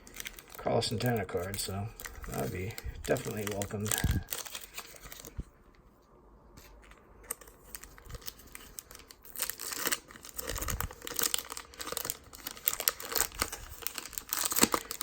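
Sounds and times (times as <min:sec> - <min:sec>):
wrapper crinkling and tearing: 0:00.0 - 0:05.5, 0:06.8 - 0:15.0.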